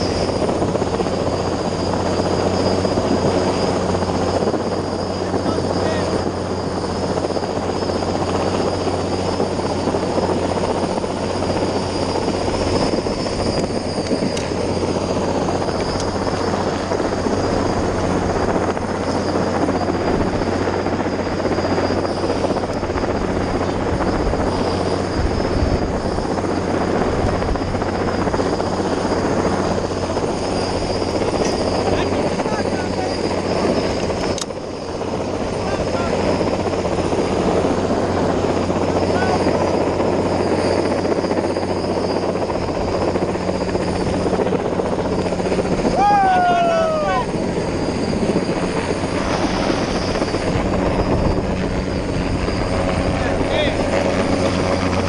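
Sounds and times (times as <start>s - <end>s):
helicopter rotor: 0.0s - 55.0s
high whine: 0.0s - 55.0s.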